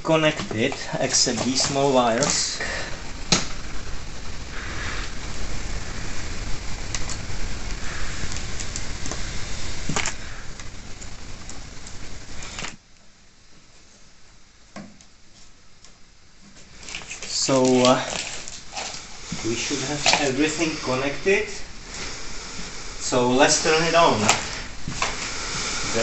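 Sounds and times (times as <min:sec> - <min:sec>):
wires and connectors rustling: 0:00.0 - 0:12.8, 0:15.0 - 0:26.0
steady noisy hiss: 0:00.0 - 0:26.0.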